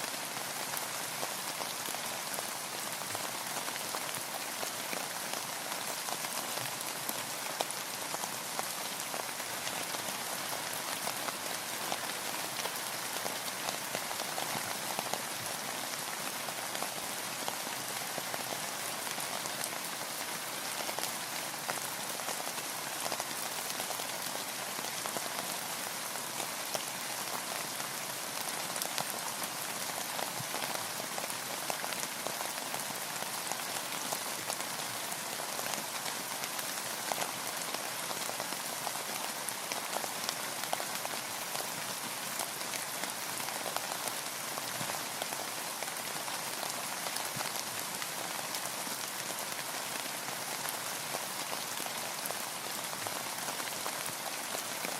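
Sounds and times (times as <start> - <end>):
rain falling on a boat and water: 0.0 - 54.9.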